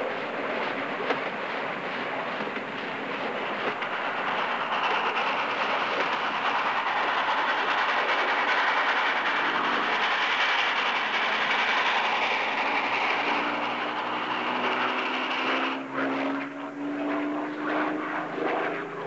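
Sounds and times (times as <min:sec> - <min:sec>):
steam train running on track: 0:00.0 - 0:17.0.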